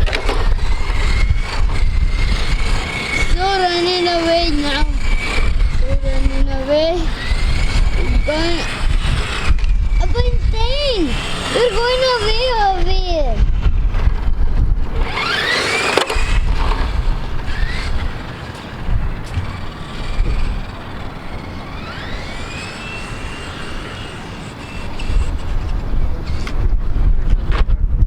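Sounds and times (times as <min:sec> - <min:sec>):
electric motor whining: 0:00.0 - 0:27.5
wind buffeting microphone: 0:00.0 - 0:28.0.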